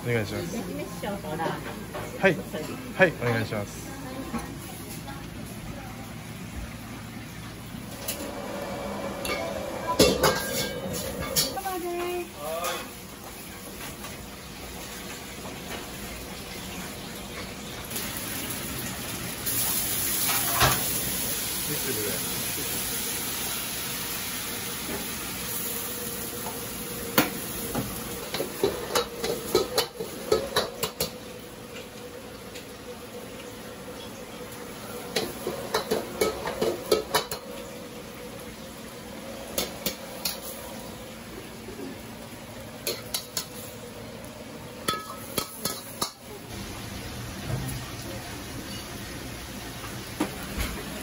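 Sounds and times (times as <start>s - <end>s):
food frying hiss: 0.0s - 51.0s.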